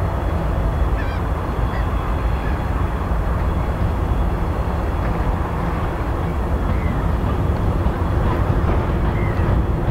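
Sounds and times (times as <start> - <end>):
electric locomotive rumbling: 0.0 - 9.9.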